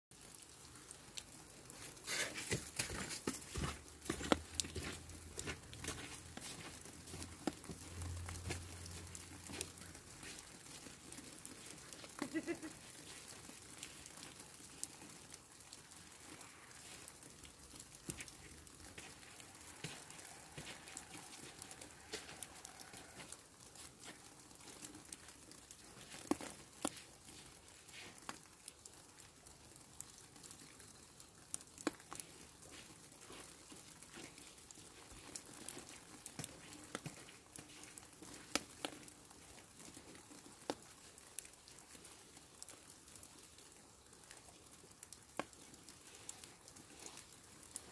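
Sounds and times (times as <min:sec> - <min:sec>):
snow ticking on surfaces: 0:00.1 - 0:47.9
soft steady hiss: 0:00.2 - 0:47.9.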